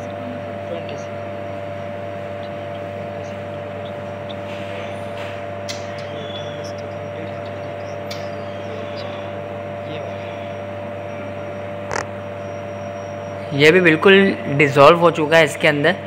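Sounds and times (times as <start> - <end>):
electrical hum of equipment: 0.0 - 16.0.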